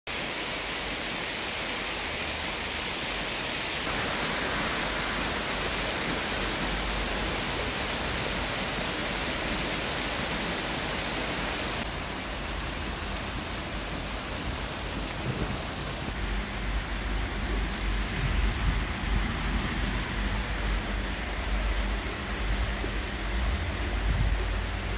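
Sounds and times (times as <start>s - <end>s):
heavy rain pouring: 0.1s - 24.9s.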